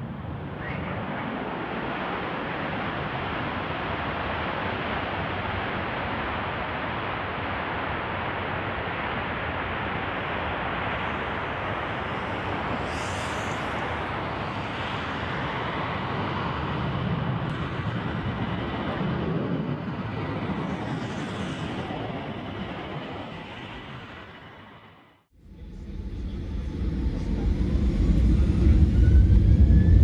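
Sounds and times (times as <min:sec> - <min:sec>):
jet engines roaring at high power: 0:00.0 - 0:30.0.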